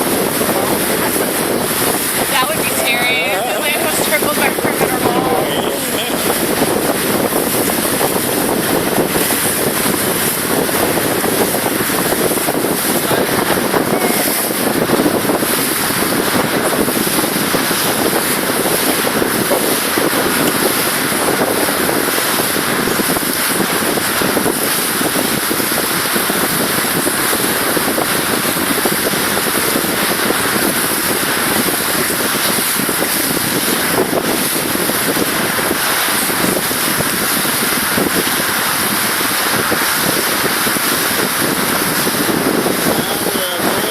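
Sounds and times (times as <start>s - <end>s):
rush of wind and water: 0.0s - 43.9s
wind buffeting microphone: 0.0s - 43.9s.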